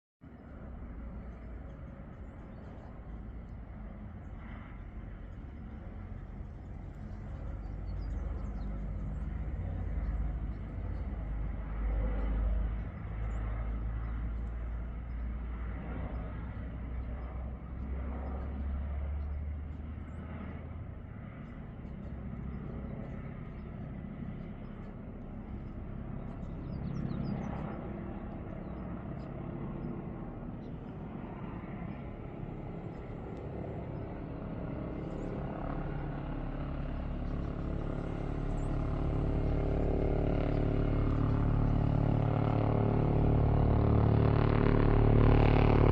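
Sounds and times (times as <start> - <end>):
distant helicopter rotor and turbines: 0.2 - 45.9
low rumble: 0.4 - 45.9.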